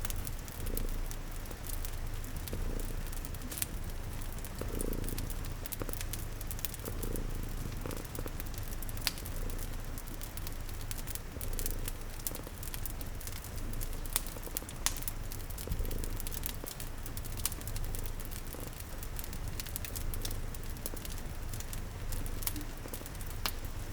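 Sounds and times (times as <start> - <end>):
cat purring: 0.0 - 23.9
rain pattering: 0.0 - 23.9
wood fire crackling and popping: 0.0 - 23.9.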